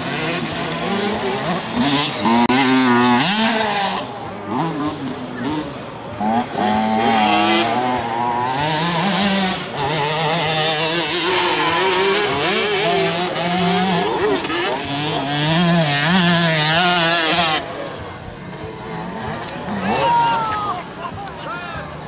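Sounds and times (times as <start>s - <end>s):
motorbike engine revving: 0.0s - 20.6s.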